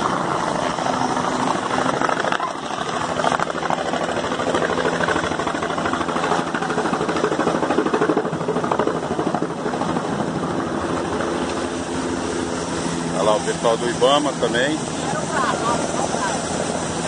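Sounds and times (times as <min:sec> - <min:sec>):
helicopter engine running: 0:00.0 - 0:17.0
helicopter rotor chopping: 0:00.0 - 0:17.0.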